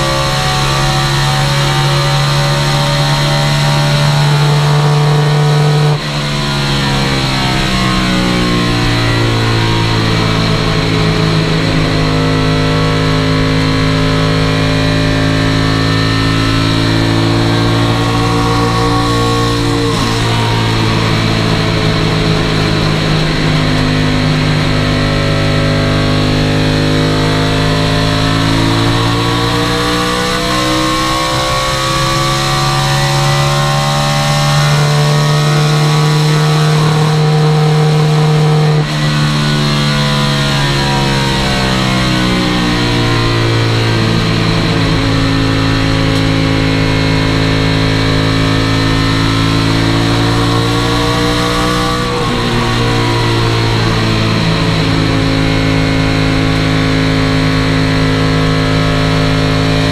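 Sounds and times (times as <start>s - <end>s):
racing car engine from inside: 0.0s - 59.9s.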